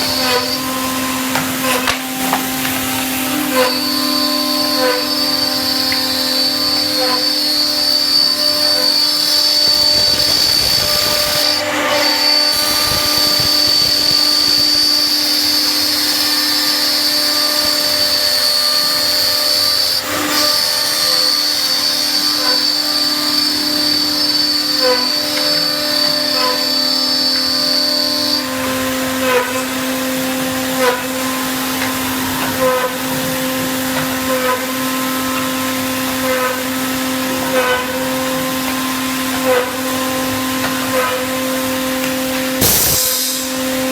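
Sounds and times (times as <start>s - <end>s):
machine spindle motors whining: 0.0s - 43.9s.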